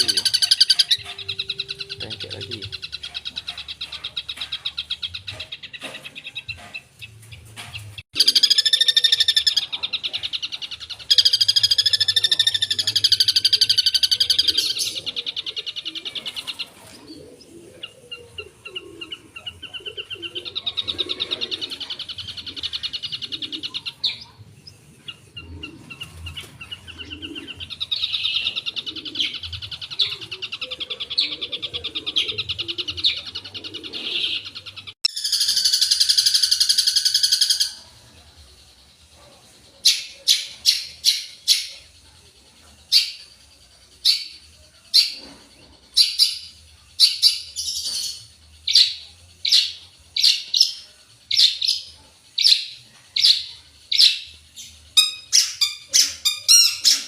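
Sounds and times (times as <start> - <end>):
shrike singing mimicked calls: 0.0 - 6.9, 8.1 - 16.8, 17.4 - 38.0, 45.9 - 57.0.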